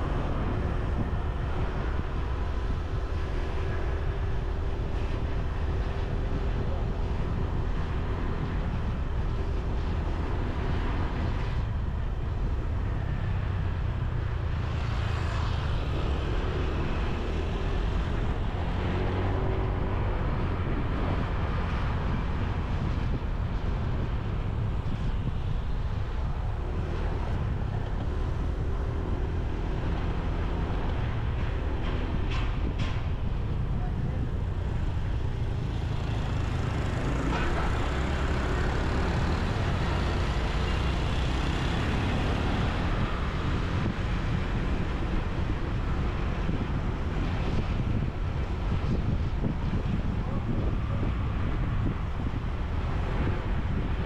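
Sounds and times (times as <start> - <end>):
road noise rumble: 0.0 - 54.0.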